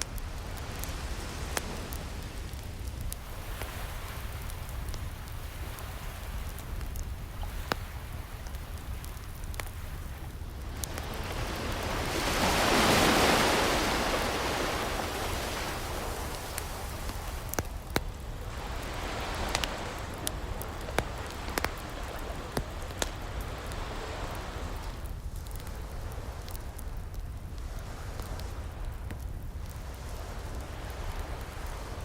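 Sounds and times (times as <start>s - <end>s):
wood fire crackling and popping: 0.0s - 32.0s
ocean waves washing in: 0.2s - 26.9s.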